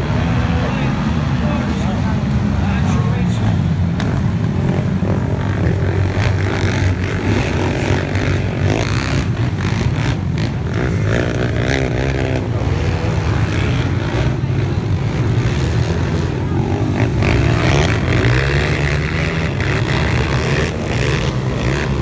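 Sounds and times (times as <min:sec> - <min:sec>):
racing quad engines droning: 0:00.0 - 0:22.0.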